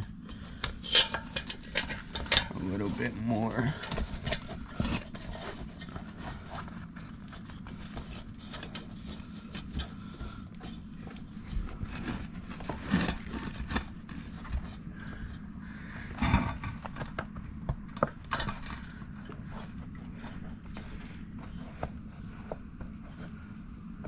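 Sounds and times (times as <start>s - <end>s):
low steady hum: 0.0s - 24.0s
tire scraping and knocking on rim: 0.0s - 24.0s.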